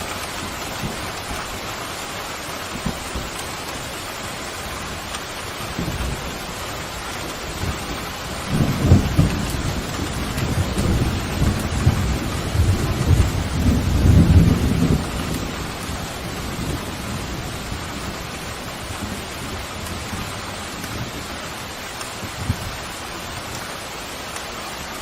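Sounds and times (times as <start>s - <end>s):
heavy rain: 0.0s - 25.0s
thunder rumbling: 2.7s - 22.9s.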